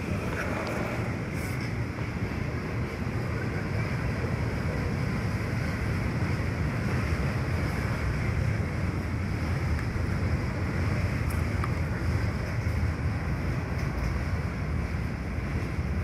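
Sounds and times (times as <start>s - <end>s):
freight train rumbling: 0.0s - 16.0s
wind on microphone: 0.0s - 16.0s.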